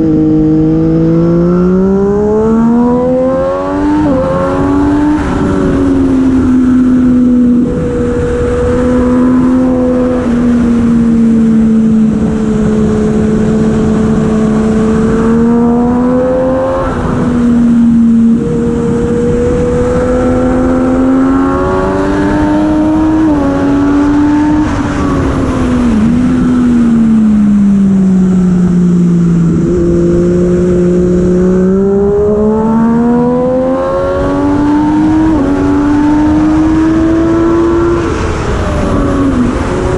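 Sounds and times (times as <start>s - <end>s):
superbike engine at racing speed: 0.0s - 39.9s
wind noise: 0.0s - 39.9s.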